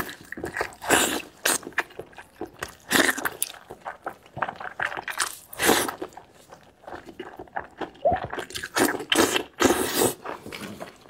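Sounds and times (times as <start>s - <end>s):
person chewing wetly: 0.0s - 11.0s.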